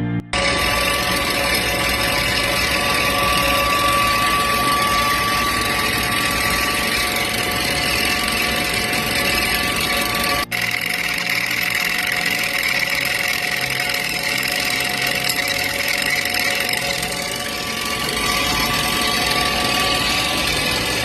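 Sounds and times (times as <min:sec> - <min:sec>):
machine whining: 0:00.0 - 0:21.0.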